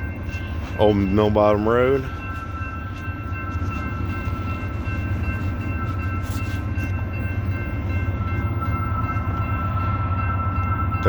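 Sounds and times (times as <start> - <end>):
heavy locomotive engine rumble: 0.0 - 11.0.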